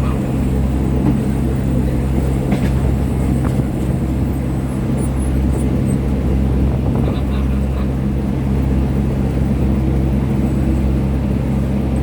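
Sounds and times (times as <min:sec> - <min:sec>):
train engine drone: 0:00.0 - 0:12.0.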